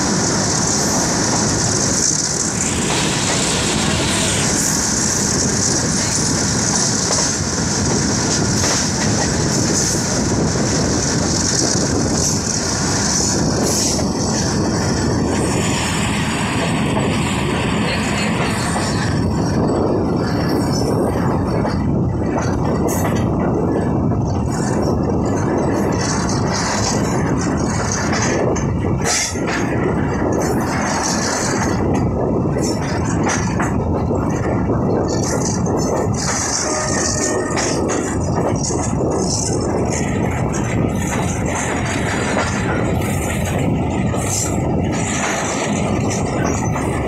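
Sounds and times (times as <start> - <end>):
train wheels rumbling and rattling: 0.0 - 47.0.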